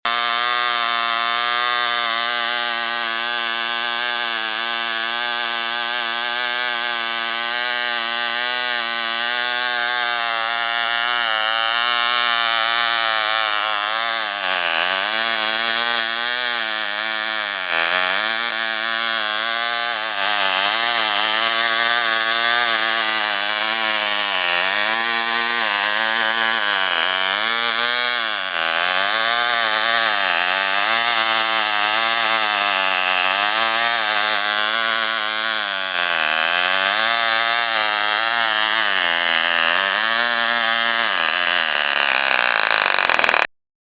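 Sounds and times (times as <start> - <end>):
model airplane engine buzzing: 0.0 - 43.5.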